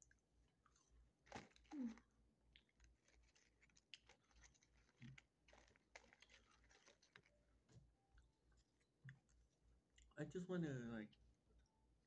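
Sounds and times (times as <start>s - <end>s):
faint clicks and scratches: 0.0s - 10.1s.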